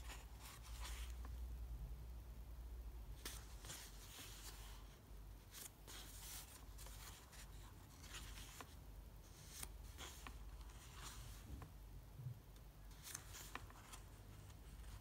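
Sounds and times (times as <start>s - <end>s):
paper pages rustling: 0.0s - 1.4s, 3.2s - 11.7s, 12.9s - 15.0s.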